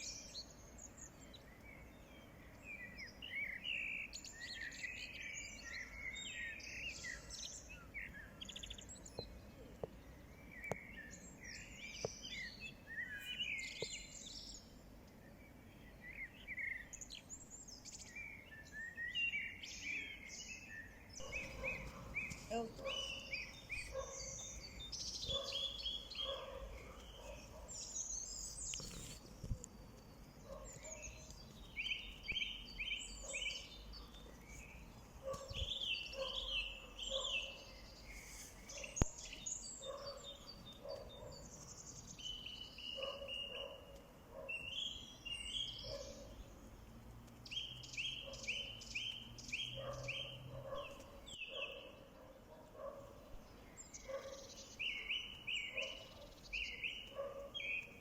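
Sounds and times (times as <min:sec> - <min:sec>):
birds chirping and singing: 0:00.0 - 0:46.6, 0:47.4 - 0:58.0
low steady background noise: 0:00.0 - 0:58.0.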